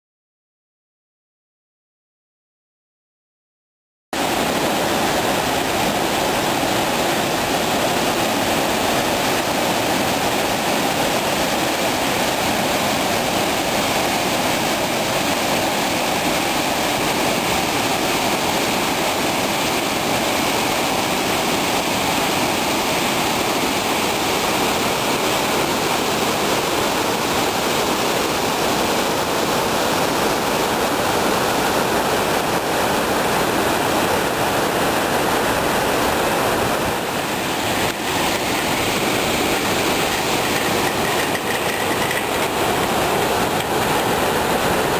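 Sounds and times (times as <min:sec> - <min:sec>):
waterfall and river rapids rushing: 0:04.2 - 0:44.9.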